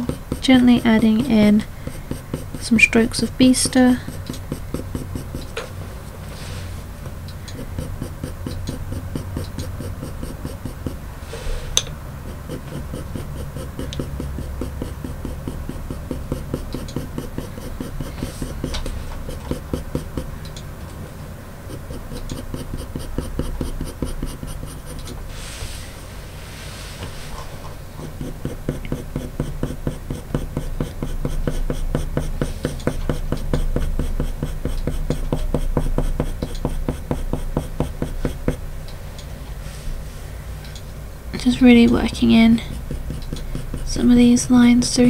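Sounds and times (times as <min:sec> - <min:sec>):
sharp pencil tick: 0:00.0 - 0:05.7, 0:07.0 - 0:11.1, 0:11.8 - 0:20.7, 0:21.5 - 0:25.3, 0:27.8 - 0:39.3, 0:40.7 - 0:45.0
pencil scratching on paper: 0:00.0 - 0:38.9, 0:41.4 - 0:45.0.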